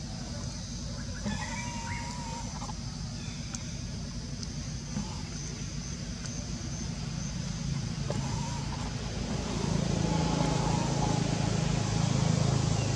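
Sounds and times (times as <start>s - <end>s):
vehicle engine rumbling: 0.0s - 12.9s.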